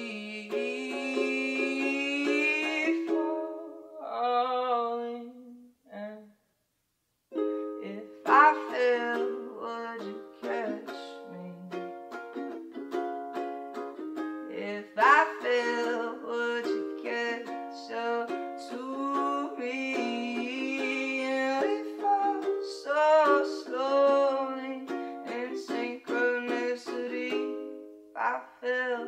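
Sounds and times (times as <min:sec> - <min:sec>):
ukulele strumming chords: 0:00.0 - 0:04.1, 0:07.3 - 0:29.0
man singing: 0:00.0 - 0:06.3, 0:07.8 - 0:11.9, 0:14.5 - 0:29.0.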